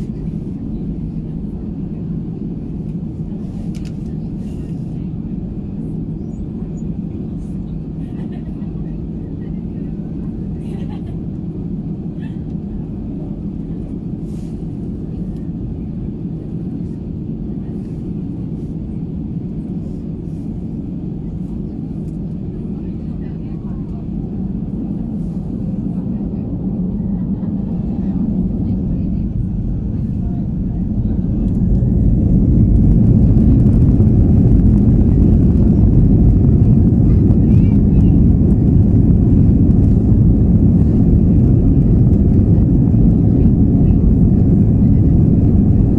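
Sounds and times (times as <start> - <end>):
jet engine rumble in cabin: 0.0 - 45.9.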